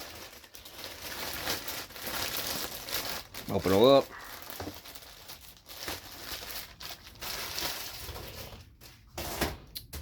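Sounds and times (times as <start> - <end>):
packaging crinkling and tearing: 0.0 - 9.4.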